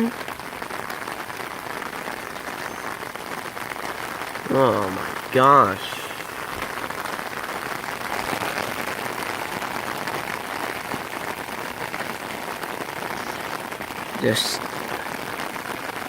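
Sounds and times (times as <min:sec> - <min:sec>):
heavy rain patter: 0:00.0 - 0:16.0.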